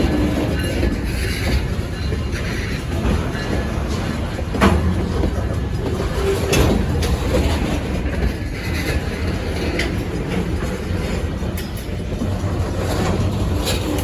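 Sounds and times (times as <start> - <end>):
freight train rolling on rails: 0.0 - 14.0.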